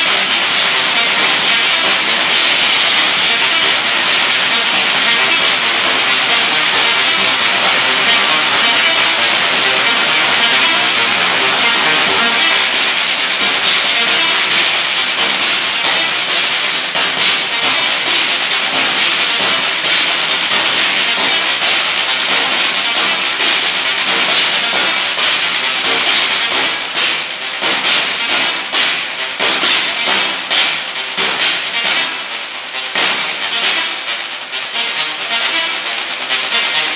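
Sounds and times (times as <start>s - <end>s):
electronic music: 0.0s - 36.9s.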